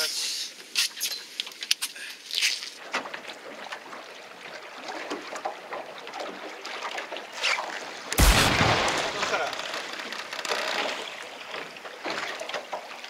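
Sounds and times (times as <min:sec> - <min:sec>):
water lapping against boat hull: 0:00.7 - 0:13.0.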